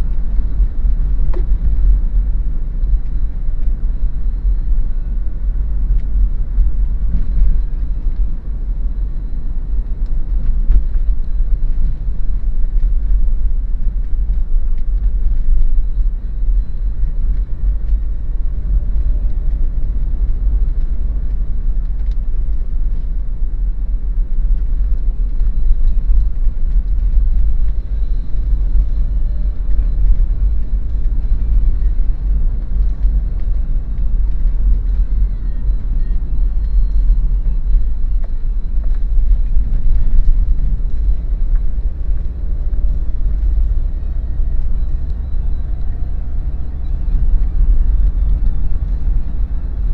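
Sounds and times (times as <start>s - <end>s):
car driving on road rumble: 0.0s - 49.9s.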